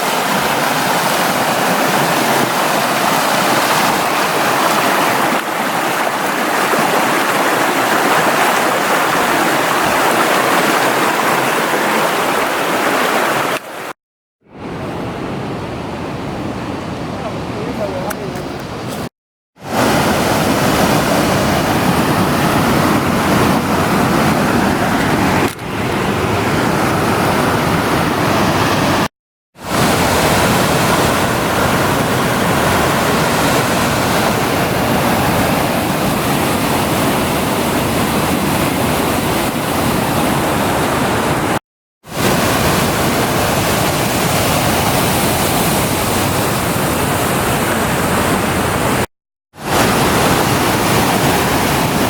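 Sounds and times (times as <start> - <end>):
waterfall and creek rushing: 0.0 - 15.3, 17.4 - 52.0.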